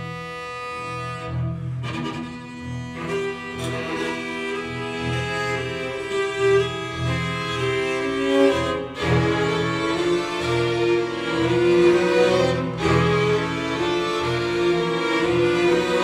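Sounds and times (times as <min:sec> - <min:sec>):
string ensemble chords: 0:00.0 - 0:16.0.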